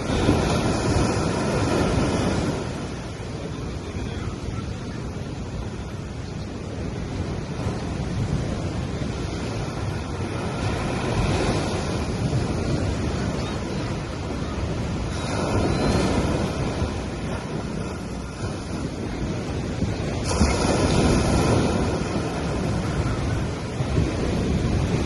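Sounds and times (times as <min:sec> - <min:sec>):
sea waves washing on beach: 0:00.0 - 0:25.0.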